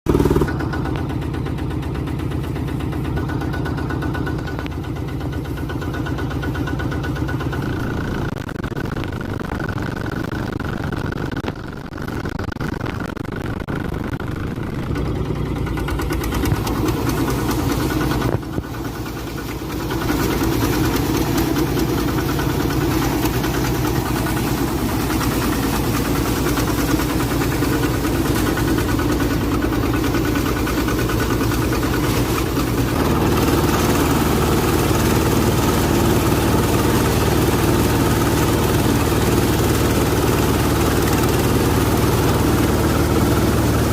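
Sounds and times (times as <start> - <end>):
combine harvester engine drone: 0.1 - 43.9.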